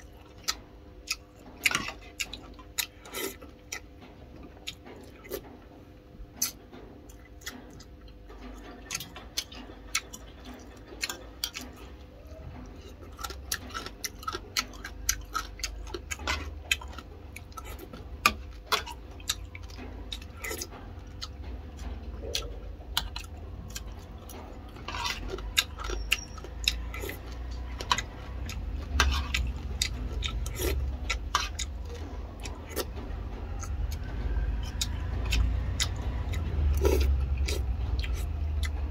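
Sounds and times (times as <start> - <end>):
chewing: 0.0 - 38.9
low steady hum: 0.0 - 38.9.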